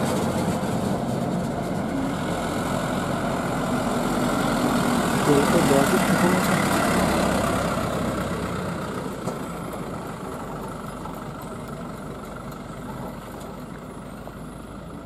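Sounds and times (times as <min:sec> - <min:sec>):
diesel truck passing: 0:00.0 - 0:15.0.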